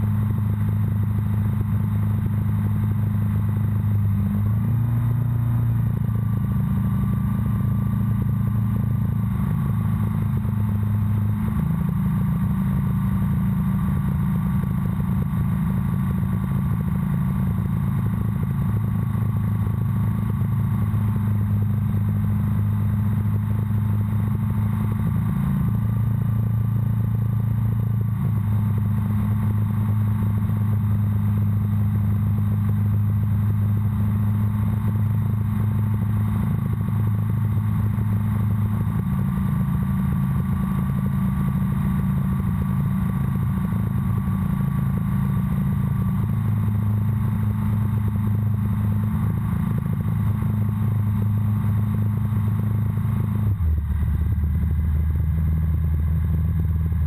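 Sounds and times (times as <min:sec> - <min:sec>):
light aircraft engine droning: 0:00.0 - 0:57.0.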